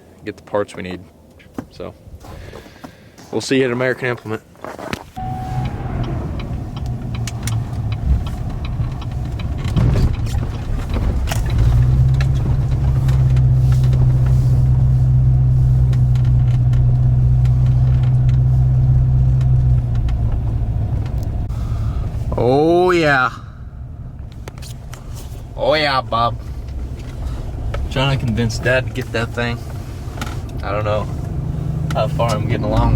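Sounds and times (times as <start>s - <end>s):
vehicle engine humming: 5.2s - 32.9s.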